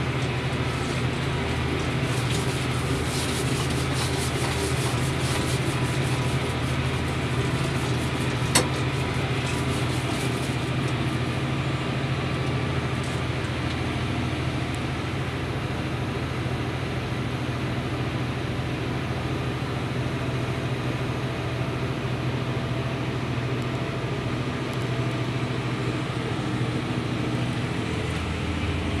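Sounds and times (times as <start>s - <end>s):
tractor engine droning: 0.0s - 29.0s.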